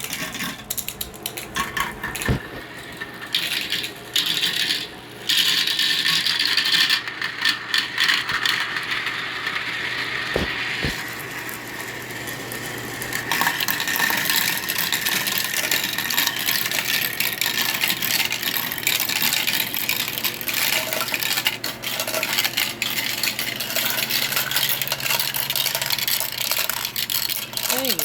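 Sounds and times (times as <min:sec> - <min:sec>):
marbles rattling down plastic track: 0:00.0 - 0:28.0.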